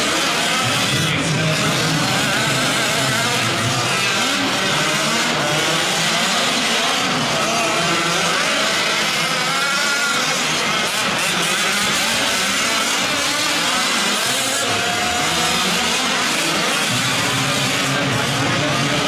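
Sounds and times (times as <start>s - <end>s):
small two-stroke engines racing: 0.0s - 19.0s.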